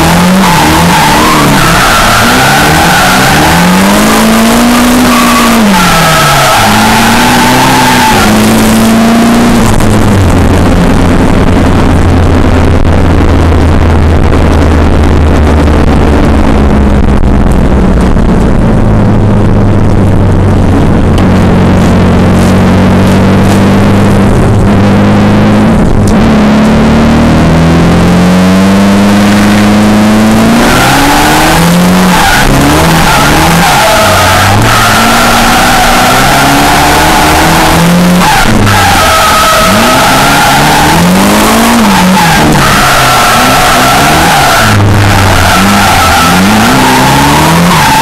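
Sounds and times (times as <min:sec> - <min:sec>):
car engine revving inside cabin: 0:00.0 - 0:48.0.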